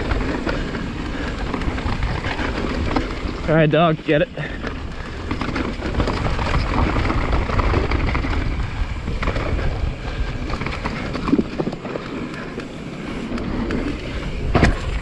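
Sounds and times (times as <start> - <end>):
bike frame and chain rattling: 0.0 - 15.0
tyres rolling over dirt: 0.0 - 15.0
wind rumbling on microphone: 0.0 - 15.0.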